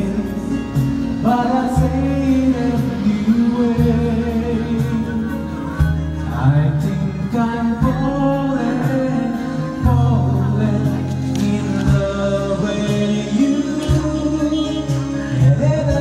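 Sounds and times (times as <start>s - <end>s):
backing track with bass notes: 0.0s - 16.0s
man singing into a microphone: 0.0s - 16.0s.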